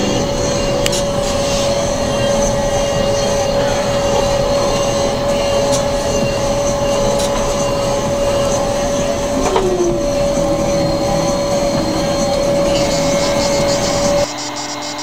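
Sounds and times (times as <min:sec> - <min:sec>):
combine harvester machine hum: 0:00.0 - 0:15.0
constant high whine: 0:00.0 - 0:15.0.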